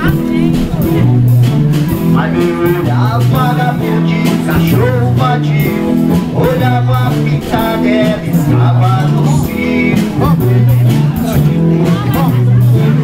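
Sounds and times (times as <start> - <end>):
live band playing: 0.0 - 13.0
man singing: 0.0 - 13.0.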